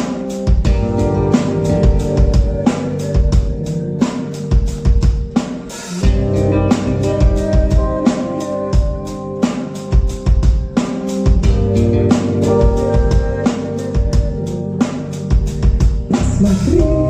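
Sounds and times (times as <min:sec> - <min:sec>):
drum kit beat: 0:00.0 - 0:17.0
sustained pitched chords: 0:00.0 - 0:17.0.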